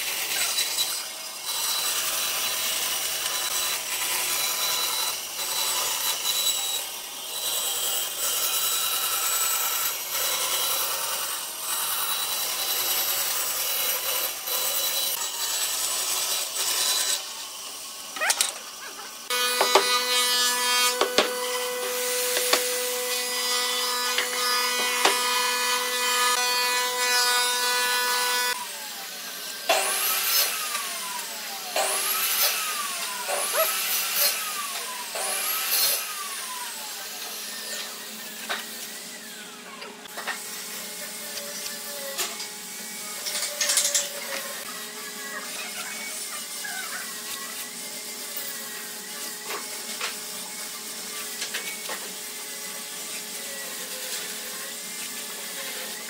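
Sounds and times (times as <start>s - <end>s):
band saw cutting wood: 0.0s - 56.0s
workshop machine humming: 0.0s - 56.0s.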